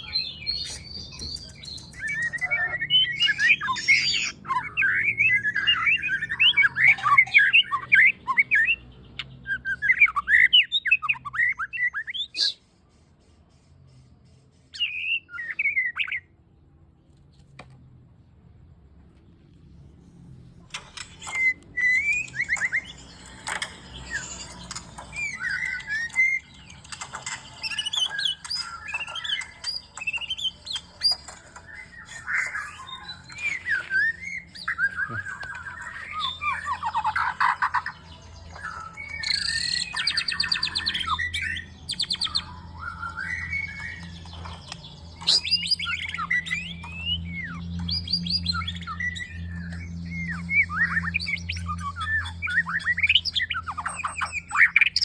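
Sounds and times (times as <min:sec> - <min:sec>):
bird singing varied song: 0:00.0 - 0:55.0.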